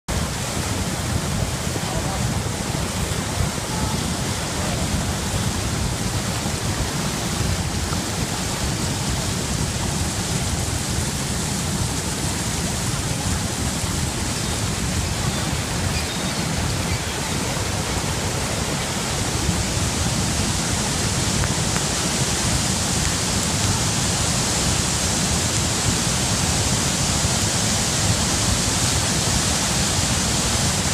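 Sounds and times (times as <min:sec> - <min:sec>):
waterfall roaring: 0:00.1 - 0:30.9.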